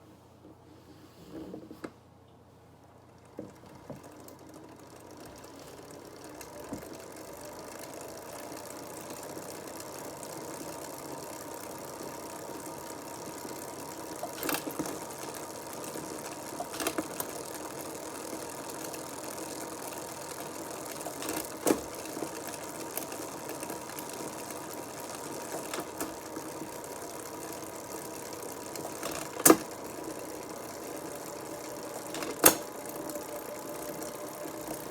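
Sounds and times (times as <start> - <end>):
bicycle drivetrain whirring: 2.8 - 34.9
drivetrain clicks: 3.2 - 34.9.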